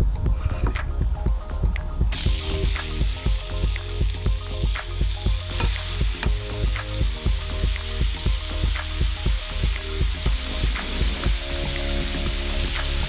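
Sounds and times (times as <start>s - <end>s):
background music with steady beat: 0.0s - 13.0s
beef sizzling in frying pan: 2.1s - 13.0s.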